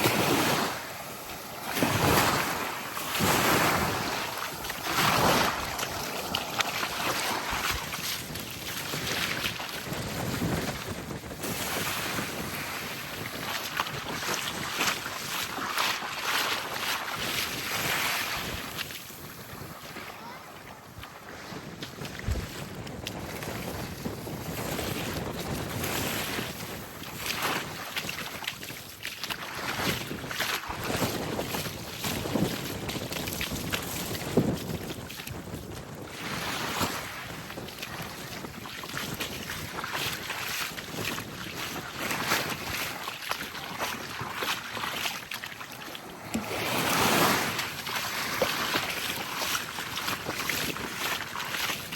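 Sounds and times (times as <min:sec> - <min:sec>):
small waves lapping on sand: 0:00.0 - 0:51.9
wind buffeting microphone: 0:00.0 - 0:51.9.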